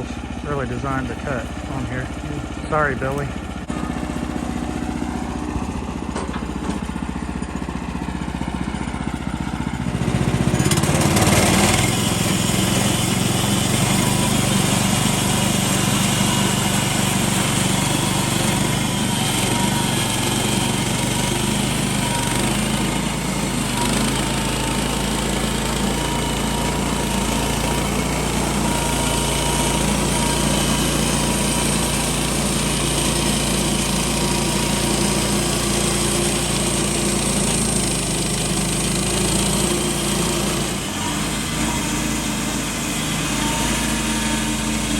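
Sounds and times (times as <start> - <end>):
sawmill gasoline engine running: 0.0 - 44.9.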